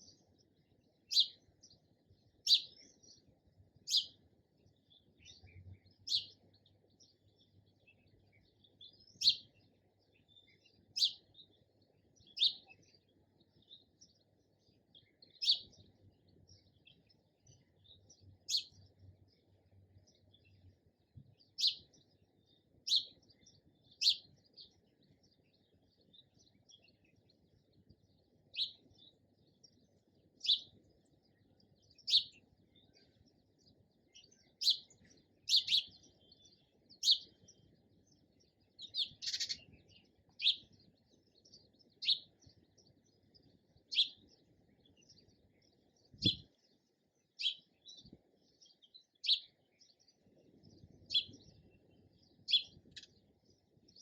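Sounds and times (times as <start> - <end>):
sparrow chirping: 0.0 - 54.0.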